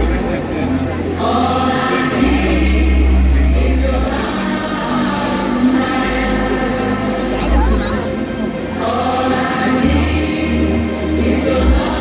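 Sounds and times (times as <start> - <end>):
choir singing held notes: 0.0 - 12.0
deep bass tones: 0.0 - 12.0.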